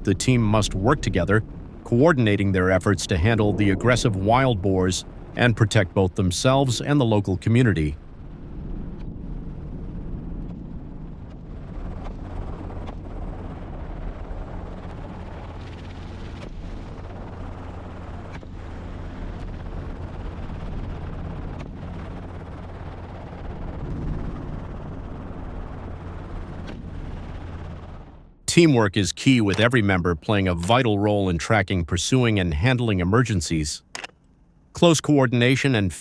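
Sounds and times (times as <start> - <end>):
helicopter rotor drone: 0.0 - 34.1.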